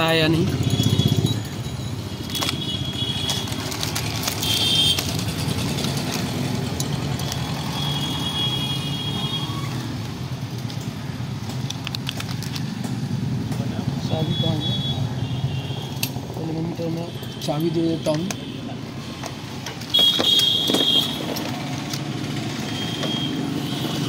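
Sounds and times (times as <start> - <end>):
motor vehicle hum: 0.0 - 17.5, 18.8 - 24.0.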